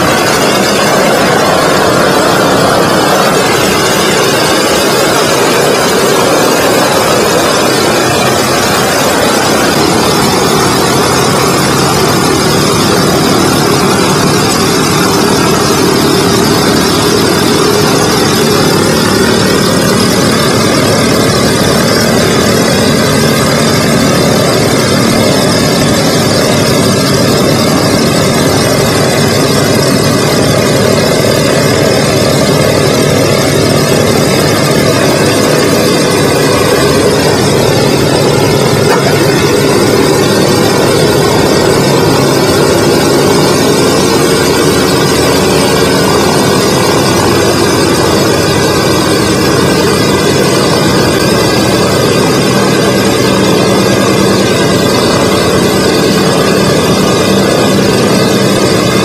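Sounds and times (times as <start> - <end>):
radial aircraft engines running: 0.0 - 59.0.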